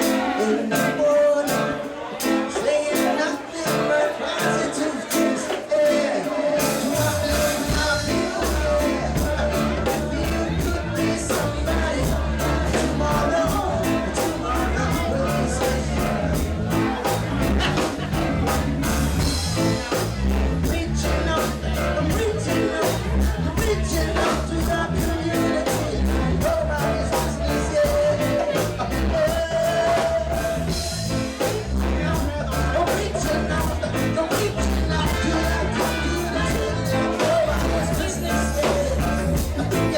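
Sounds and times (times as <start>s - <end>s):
live reggae band: 0.0s - 39.9s
bass and drum beat: 6.6s - 39.9s.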